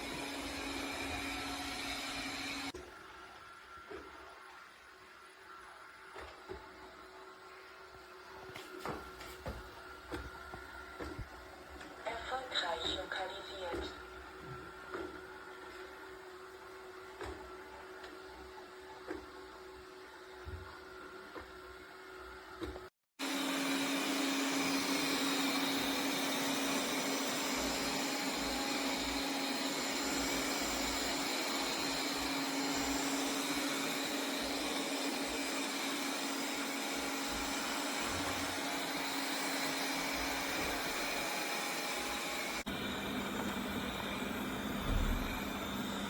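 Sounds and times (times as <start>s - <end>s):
robot vacuum whirring: 0.0s - 8.4s, 9.4s - 46.0s.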